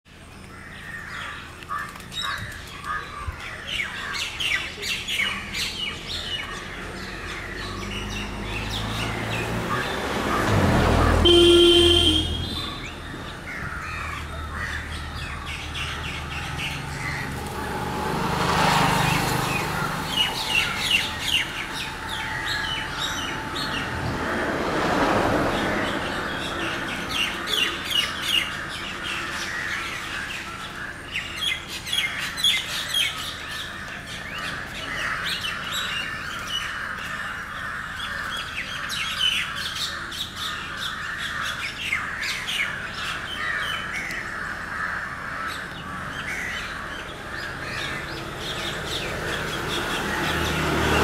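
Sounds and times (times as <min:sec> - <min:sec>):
birds chirping: 0:00.1 - 0:51.0.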